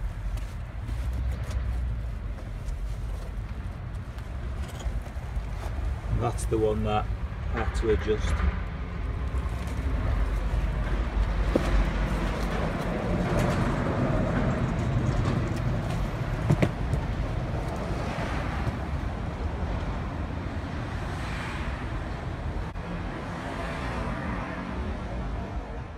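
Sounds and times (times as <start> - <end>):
low outdoor rumble: 0.0 - 21.1.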